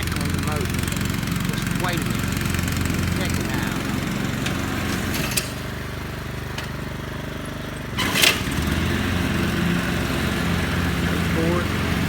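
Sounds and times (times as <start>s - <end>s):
motor scooter engine running: 0.0s - 12.0s.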